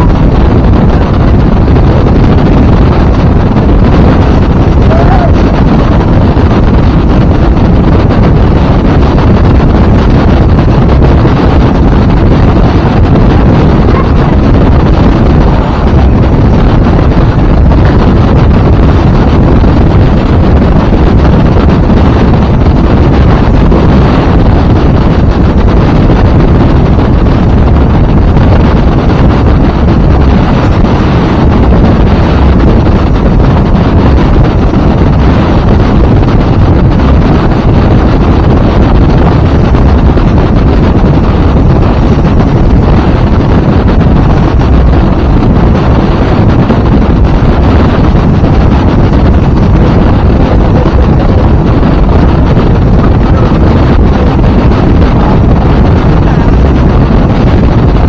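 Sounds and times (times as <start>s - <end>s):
motorboat running through waves: 0.0s - 58.0s
wind buffeting microphone: 0.0s - 58.0s.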